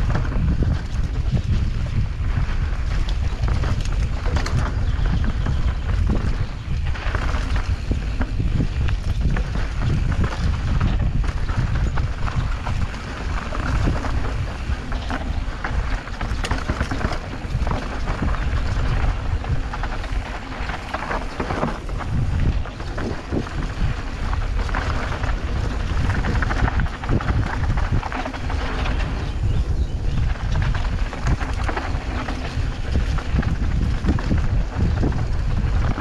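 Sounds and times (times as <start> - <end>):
bike knocking and rattling: 0.0 - 36.0
tyres on dirt trail: 0.0 - 36.0
wind on microphone: 0.0 - 36.0.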